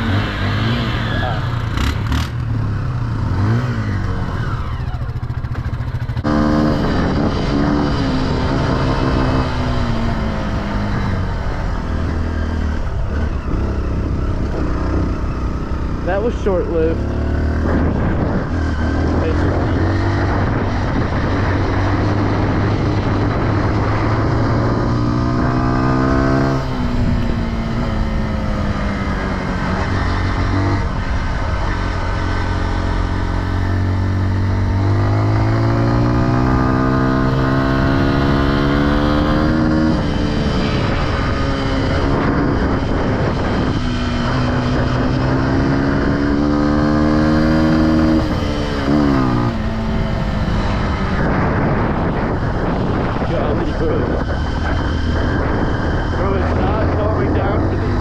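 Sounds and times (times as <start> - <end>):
off-road engine revving: 0.0 - 58.0.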